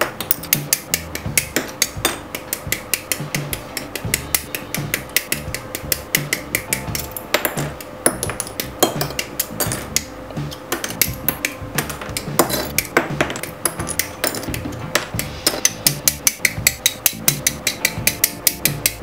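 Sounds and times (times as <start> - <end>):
background music with steady beat: 0.0 - 19.0.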